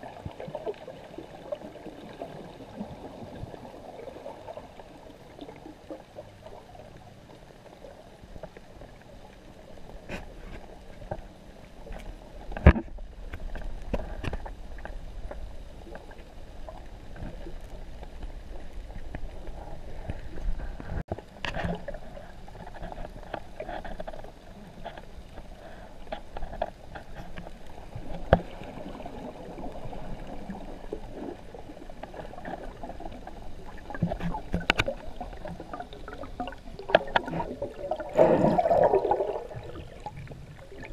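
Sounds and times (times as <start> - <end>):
murky underwater wash: 0.0 - 40.9.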